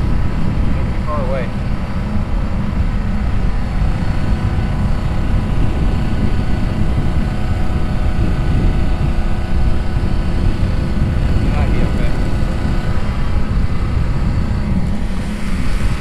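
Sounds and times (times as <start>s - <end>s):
engine and conveyor running: 0.0s - 16.0s.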